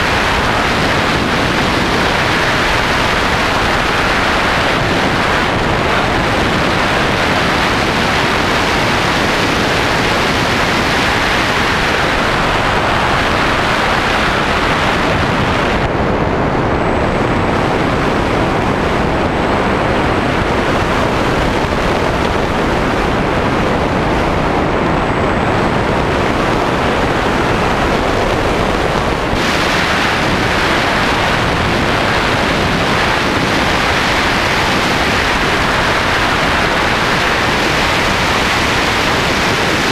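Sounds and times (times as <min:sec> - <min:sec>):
loud wind rush: 0:00.0 - 0:39.9.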